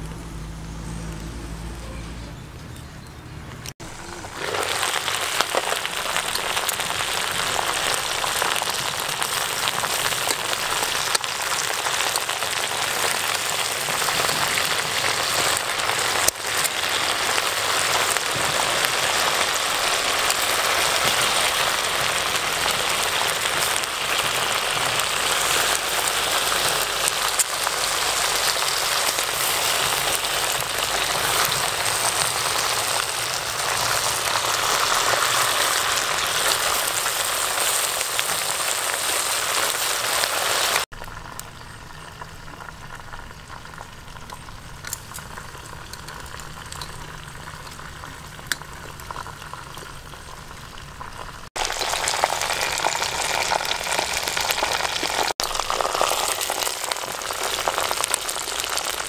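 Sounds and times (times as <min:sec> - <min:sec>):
meat sizzling in a pot: 0:03.9 - 0:59.0.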